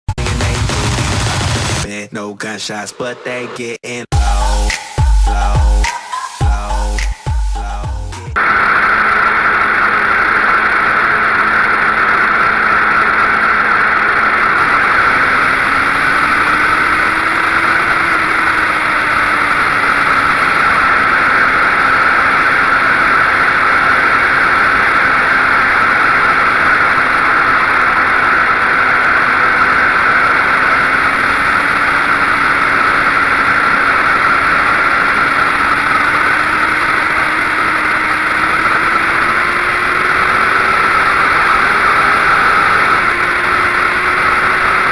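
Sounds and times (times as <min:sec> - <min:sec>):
loud rushing noise: 0:00.1 - 0:01.9, 0:08.4 - 0:44.9
motorcycle engine running: 0:04.2 - 0:44.9.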